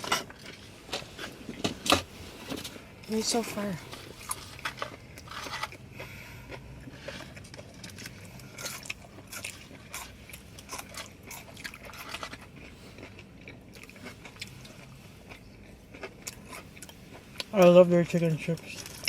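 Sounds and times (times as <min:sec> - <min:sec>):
person chewing crunchy food: 0:00.0 - 0:19.0
steady low hum: 0:00.0 - 0:19.0.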